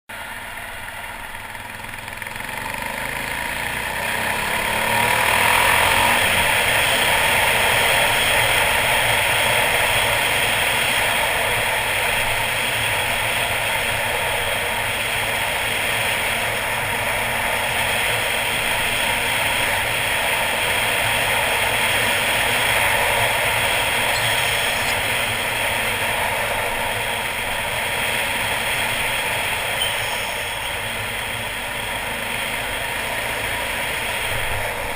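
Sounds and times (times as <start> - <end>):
motorcycle engine accelerating: 0.1 - 34.9
wind and road noise: 0.1 - 34.9.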